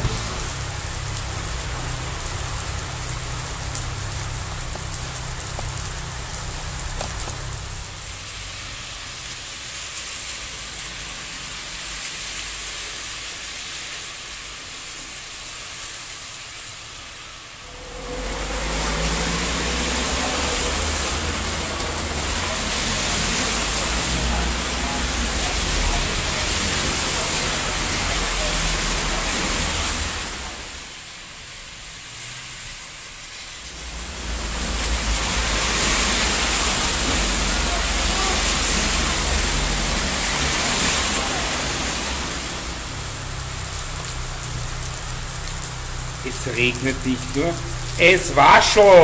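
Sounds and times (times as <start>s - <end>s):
heavy rain on pavement: 0.0s - 49.0s.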